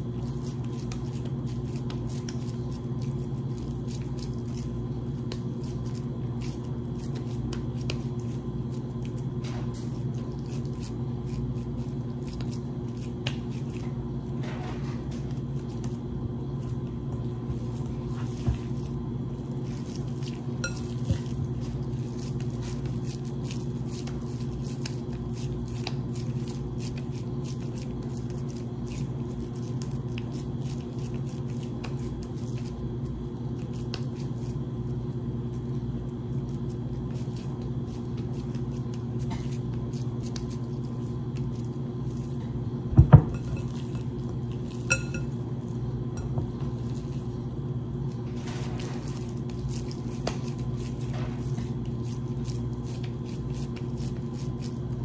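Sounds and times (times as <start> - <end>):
squishing and patting of raw meat: 0.0 - 55.0
steady low hum: 0.0 - 55.0.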